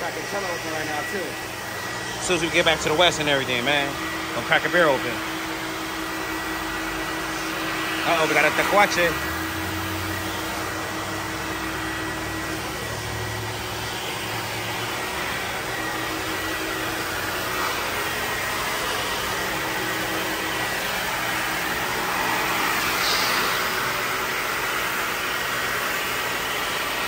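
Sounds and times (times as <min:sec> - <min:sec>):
mechanical hiss and hum: 0:00.0 - 0:27.0.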